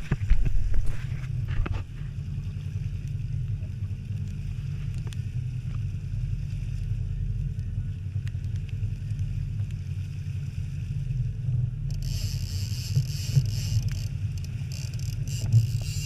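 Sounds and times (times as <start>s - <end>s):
boat motor rumbling: 0.0s - 16.0s
water rushing against hull: 0.0s - 16.0s
wind: 0.0s - 16.0s.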